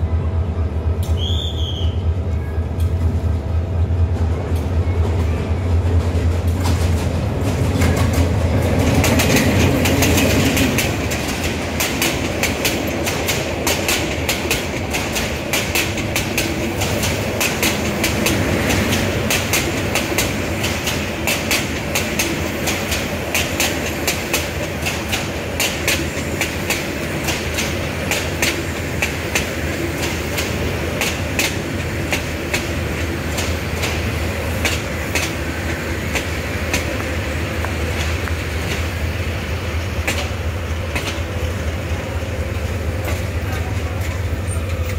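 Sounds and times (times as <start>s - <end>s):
locomotive engine hum: 0.0s - 44.9s
train wheels clickety-clack: 4.0s - 44.9s.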